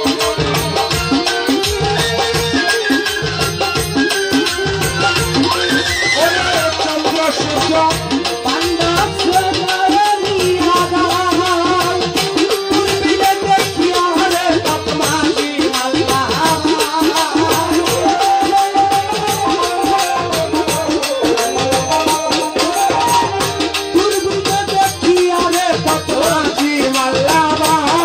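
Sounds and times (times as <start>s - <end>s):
jingling percussion: 0.0s - 28.0s.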